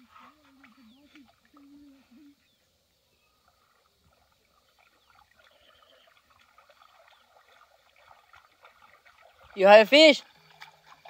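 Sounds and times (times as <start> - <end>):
small splashes of water: 0.0 - 2.5, 3.3 - 11.0.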